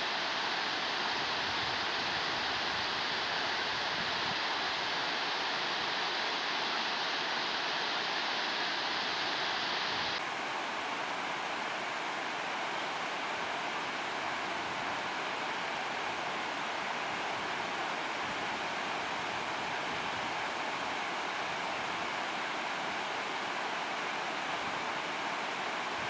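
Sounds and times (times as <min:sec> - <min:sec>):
river rapids rushing over rocks: 0:00.0 - 0:26.0.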